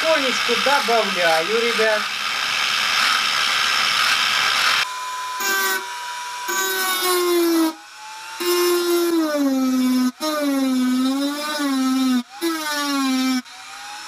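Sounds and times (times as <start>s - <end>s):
angle grinder grinding metal: 0.0s - 14.0s
rotary tool high whine: 0.0s - 14.0s.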